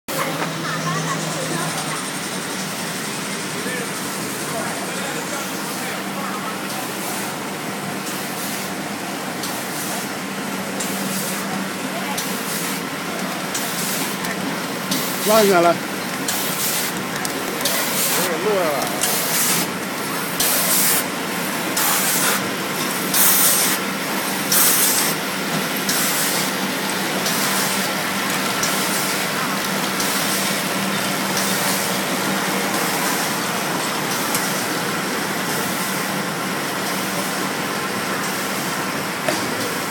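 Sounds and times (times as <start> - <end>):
packaging machine humming: 0.1 - 39.9.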